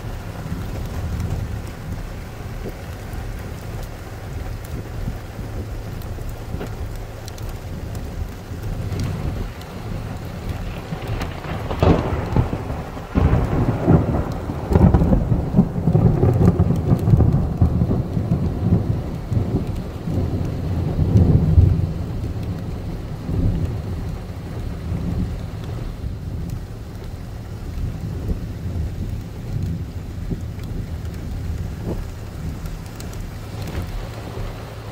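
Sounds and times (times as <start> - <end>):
rolling thunder: 0.0 - 34.9
steady rain: 0.0 - 34.9.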